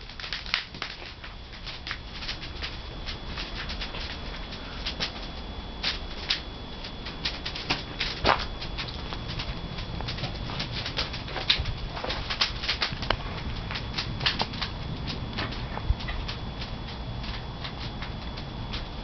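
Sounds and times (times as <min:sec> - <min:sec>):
firewood crackling and popping: 0:00.0 - 0:19.0
low steady rumble: 0:00.0 - 0:19.0.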